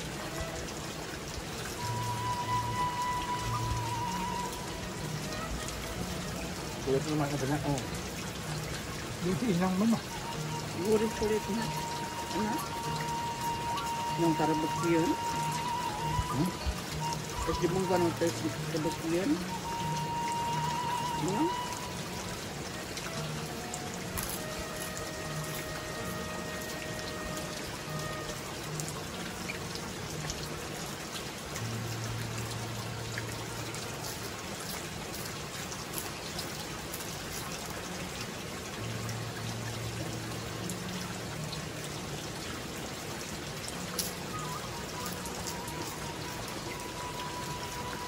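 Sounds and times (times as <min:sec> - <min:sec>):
background music: 0:00.0 - 0:48.0
steady rain falling: 0:00.0 - 0:48.0.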